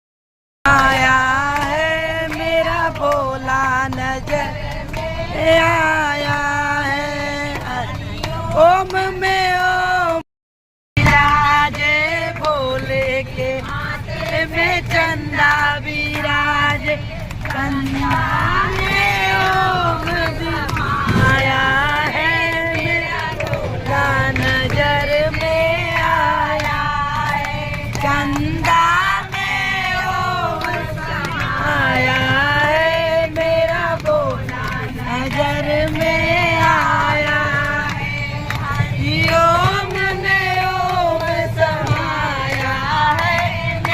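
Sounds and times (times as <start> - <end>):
high voice singing devotional song: 0.7 - 10.2, 11.0 - 43.9.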